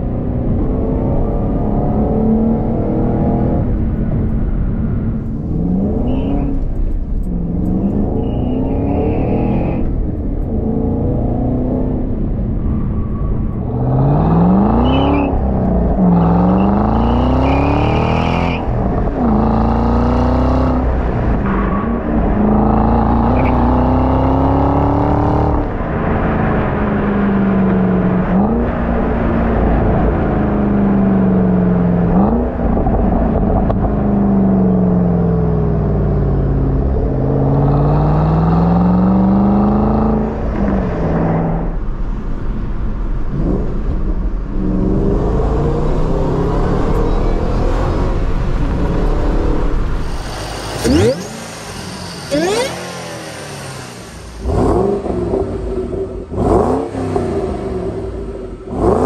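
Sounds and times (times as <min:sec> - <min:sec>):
car engine revving through gears: 0:00.0 - 0:41.9, 0:43.2 - 0:59.0.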